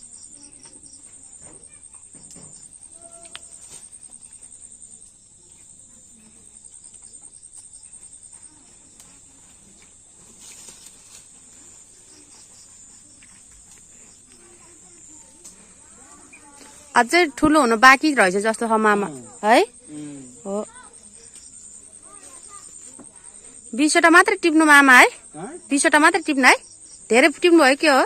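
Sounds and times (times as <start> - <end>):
high-pitched insect trill: 0.0 - 28.0.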